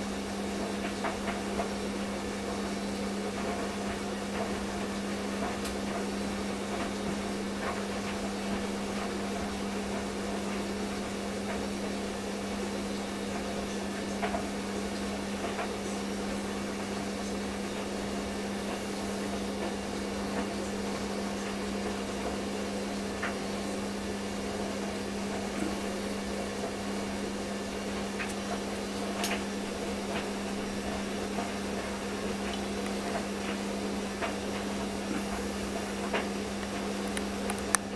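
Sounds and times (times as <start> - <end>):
steady electrical hum: 0.0 - 37.9.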